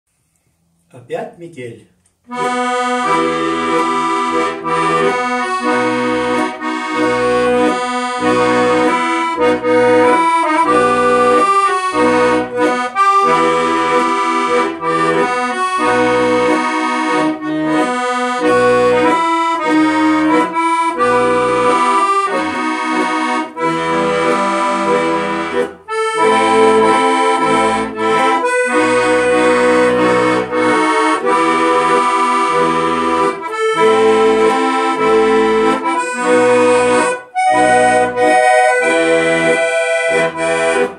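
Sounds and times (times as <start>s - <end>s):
accordion playing a tune: 2.2s - 40.9s.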